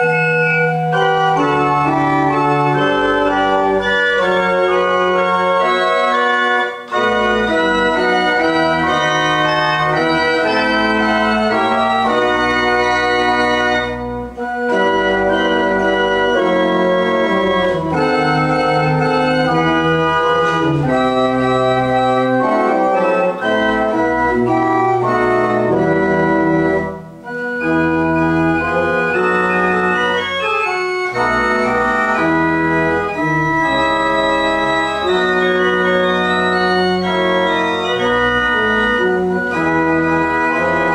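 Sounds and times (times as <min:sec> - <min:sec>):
pipe organ playing: 0:00.0 - 0:40.9.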